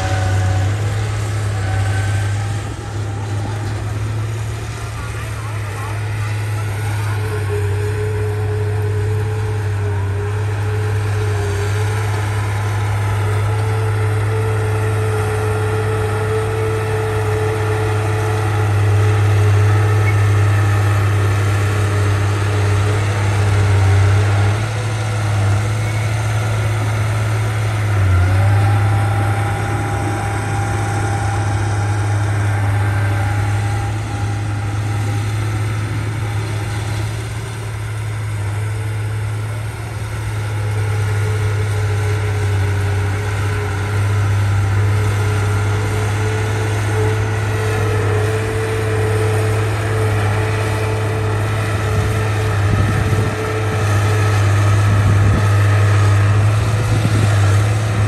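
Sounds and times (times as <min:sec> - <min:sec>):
diesel engine humming: 0:00.0 - 0:58.0
rising whine: 0:00.0 - 0:58.0.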